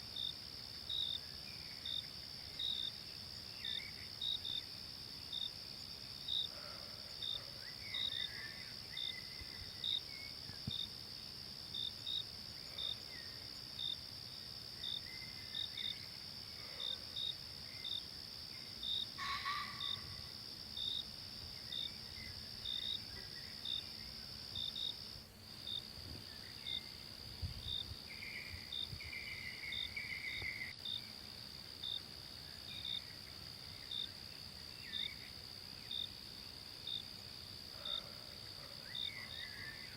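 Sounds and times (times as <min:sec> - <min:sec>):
insect chirp: 0:00.0 - 0:39.9
insects droning: 0:00.0 - 0:39.9.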